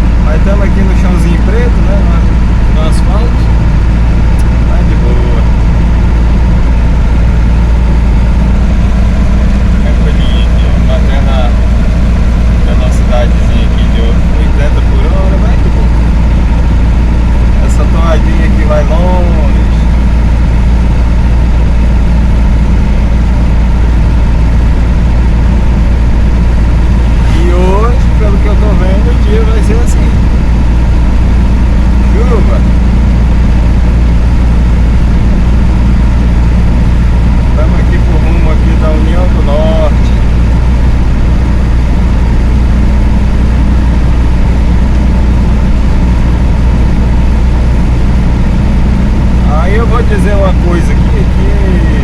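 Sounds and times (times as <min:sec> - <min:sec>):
vehicle engine drone: 0:00.0 - 0:52.0.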